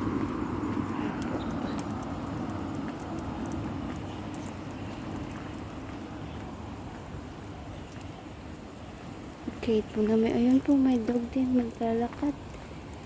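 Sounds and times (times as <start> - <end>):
passing motor vehicle rumble: 0.0 - 13.0.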